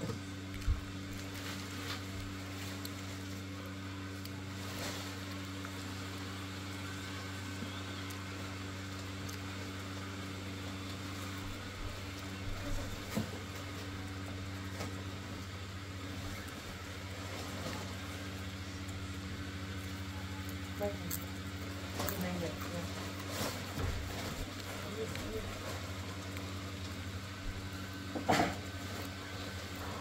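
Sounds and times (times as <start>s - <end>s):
blower fans humming: 0.0s - 30.0s.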